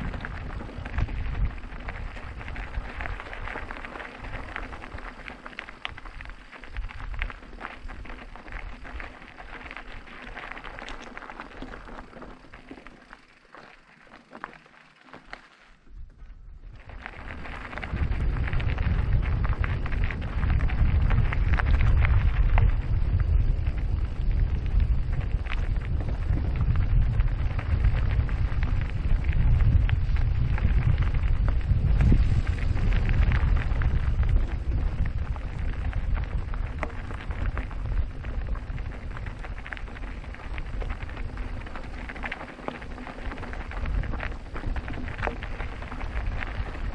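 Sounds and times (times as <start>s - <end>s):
wind rumble on microphone: 0.0s - 13.6s, 15.8s - 46.9s
bike tyre noise: 0.0s - 46.9s.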